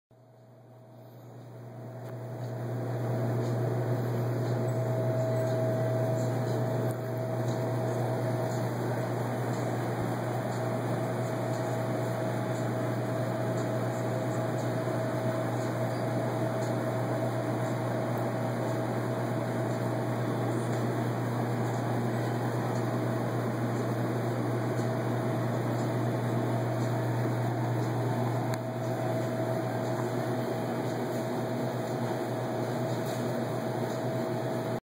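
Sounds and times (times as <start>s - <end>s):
faint high whine: 0.2s - 34.8s
ventilation and refrigeration hum: 0.2s - 34.8s.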